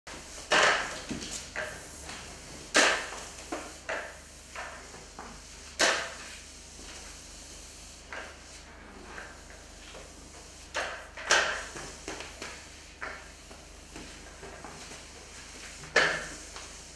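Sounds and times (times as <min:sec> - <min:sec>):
mop swishing on wet tiles: 0:00.1 - 0:16.9.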